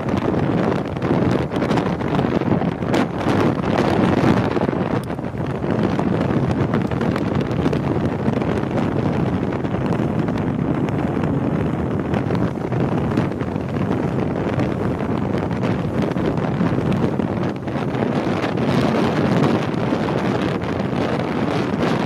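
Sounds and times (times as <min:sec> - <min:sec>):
boat rushing over water: 0:00.0 - 0:22.0
wind buffeting microphone: 0:00.0 - 0:22.0.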